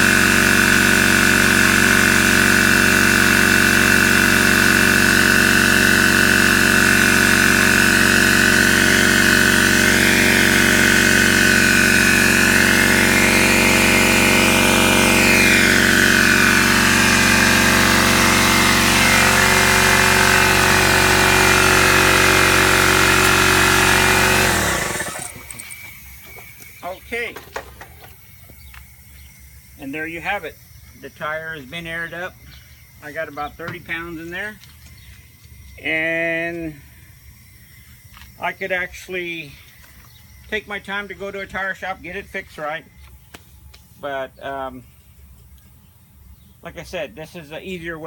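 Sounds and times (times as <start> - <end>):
air compressor motor running: 0.0 - 46.8.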